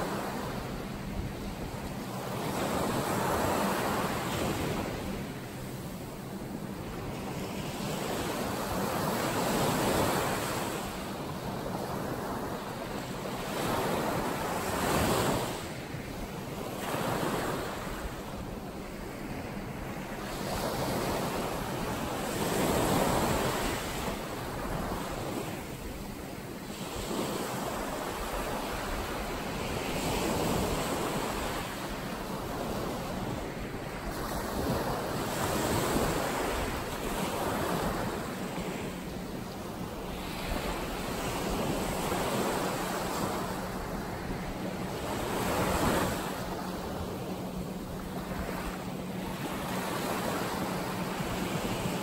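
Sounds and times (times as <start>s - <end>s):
ocean surf rolling: 0.0s - 52.0s.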